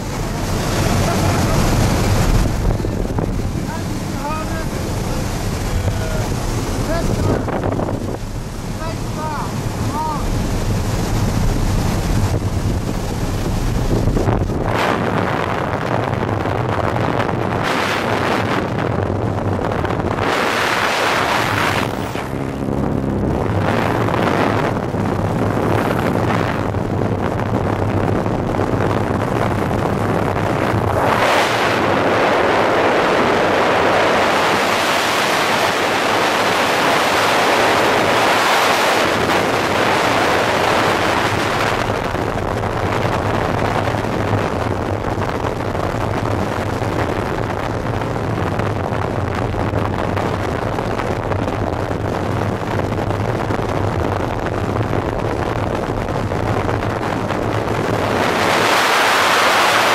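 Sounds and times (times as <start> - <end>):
wind roaring on microphone: 0.0 - 59.9.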